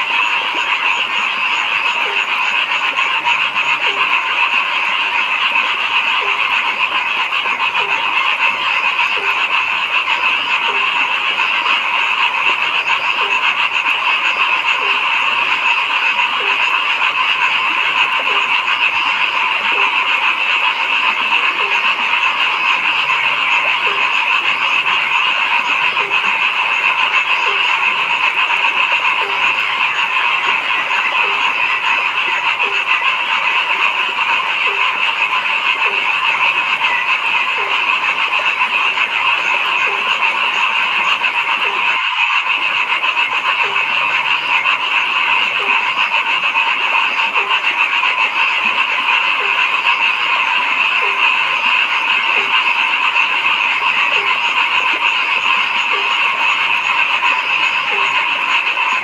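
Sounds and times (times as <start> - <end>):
frog chorus: 0.0 - 59.0
low frog croak: 0.0 - 59.0.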